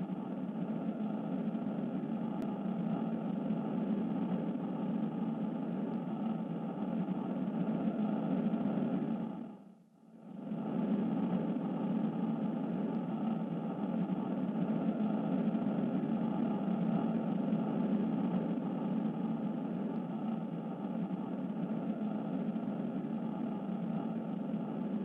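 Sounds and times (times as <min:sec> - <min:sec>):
steady droning rumble: 0:00.0 - 0:09.6, 0:10.2 - 0:25.0.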